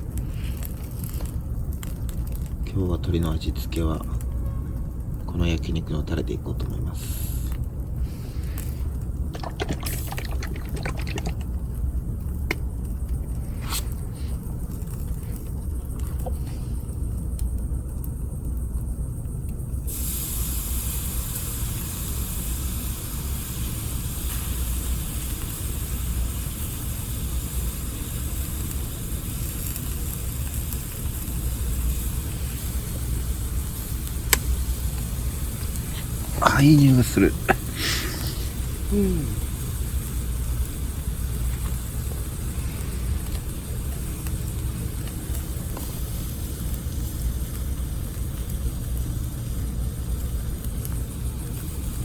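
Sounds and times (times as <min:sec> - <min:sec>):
meat sizzling over fire: 0:00.0 - 0:52.0.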